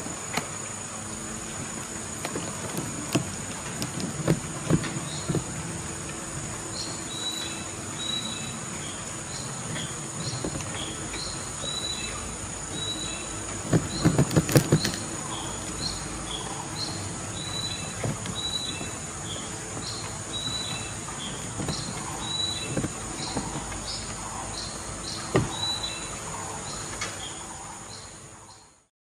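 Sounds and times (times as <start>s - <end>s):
high insect drone: 0.0s - 28.6s.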